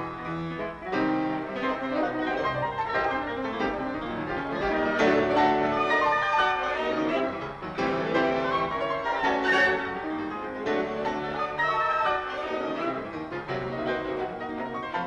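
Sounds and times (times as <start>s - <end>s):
bowed violins: 0.0s - 15.0s
grand piano: 0.0s - 15.0s.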